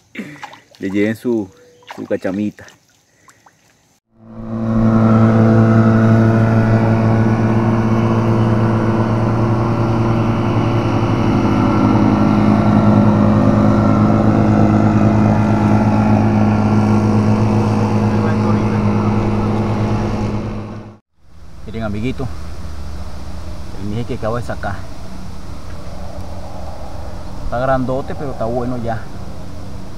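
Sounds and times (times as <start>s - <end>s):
outboard motor running: 4.1s - 29.9s.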